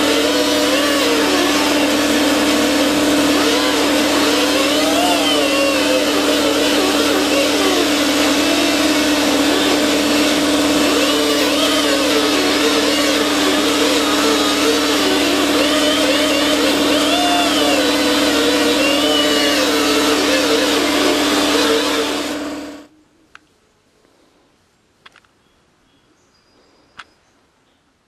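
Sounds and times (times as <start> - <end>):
grinder motor whine: 0.0 - 22.9.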